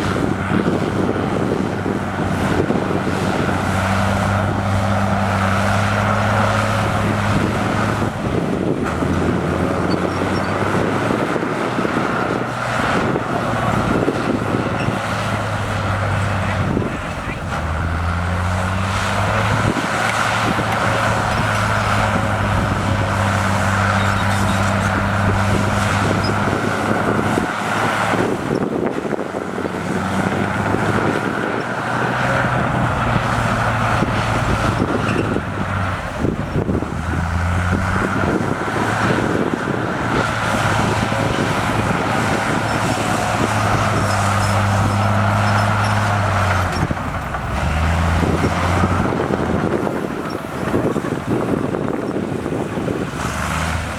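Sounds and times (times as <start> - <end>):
bulldozer diesel engine working: 0.0 - 53.9.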